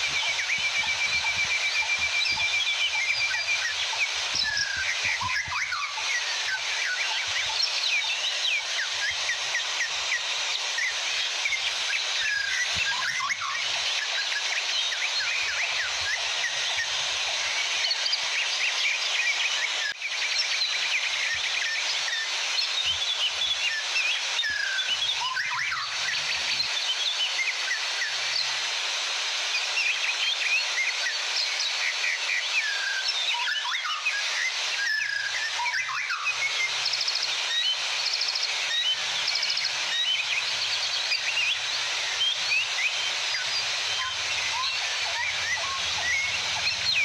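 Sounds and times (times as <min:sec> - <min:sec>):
small birds chirping: 0:00.0 - 0:28.7, 0:29.6 - 0:47.0
waterfall hissing: 0:00.0 - 0:47.0.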